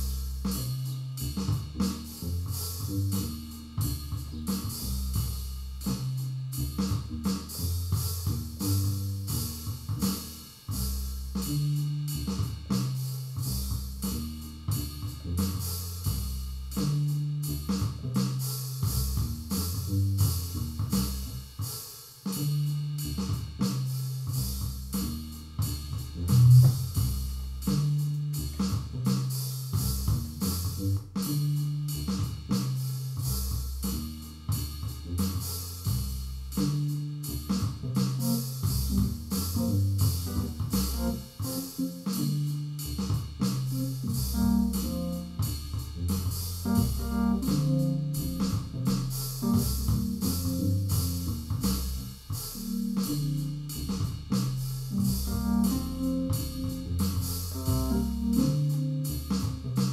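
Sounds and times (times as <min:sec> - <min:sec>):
looping bass line: 0:00.0 - 0:18.2, 0:18.9 - 0:21.3, 0:24.9 - 0:29.0, 0:35.1 - 0:59.9
drums and hi-hat: 0:00.0 - 0:59.9.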